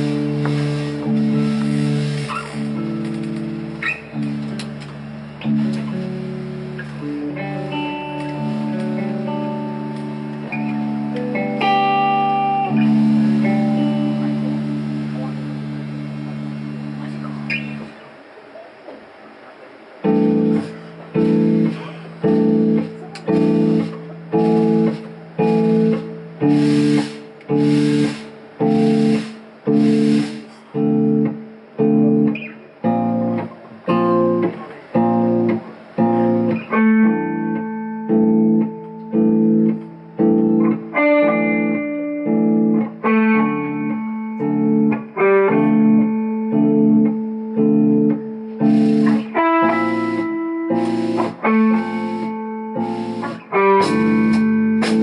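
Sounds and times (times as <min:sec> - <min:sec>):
rock band playing: 0:00.0 - 0:18.0, 0:20.0 - 0:55.0
lead guitar held notes: 0:00.0 - 0:55.0.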